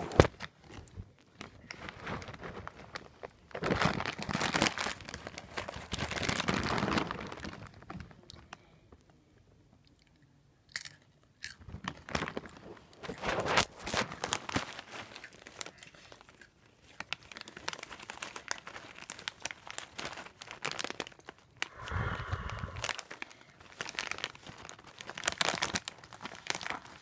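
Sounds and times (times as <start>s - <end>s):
snack bag crinkling: 1.4s - 8.4s, 10.7s - 27.0s.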